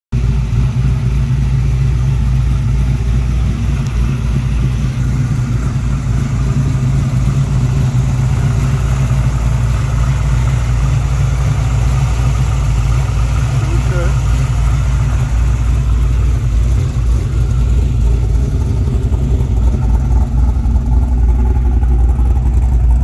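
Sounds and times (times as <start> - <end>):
car engine idling: 0.1 - 23.0.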